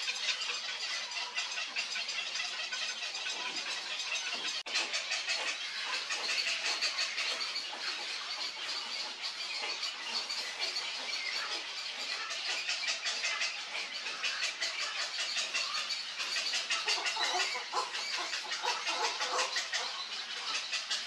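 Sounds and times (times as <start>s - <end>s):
bird clucking calls: 0.0s - 21.0s.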